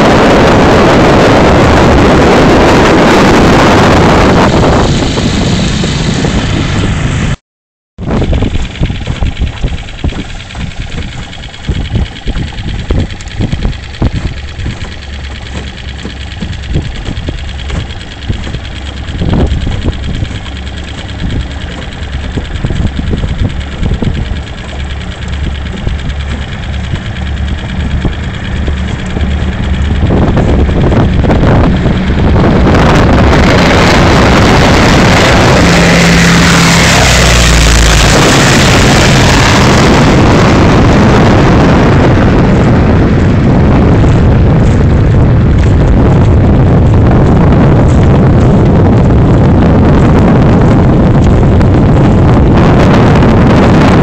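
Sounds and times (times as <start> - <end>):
aircraft roaring overhead: 0.0 - 7.4, 8.0 - 54.0
boat motor running: 0.0 - 7.4, 8.0 - 54.0.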